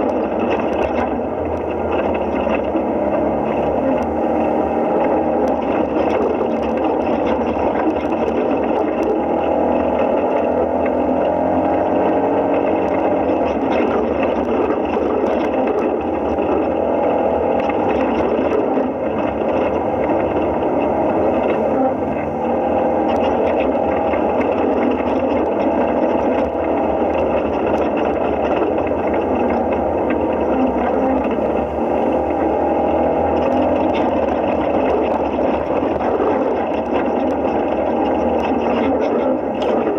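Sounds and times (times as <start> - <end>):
rattles and knocks: 0.0 - 39.9
utility vehicle engine running: 0.0 - 39.9.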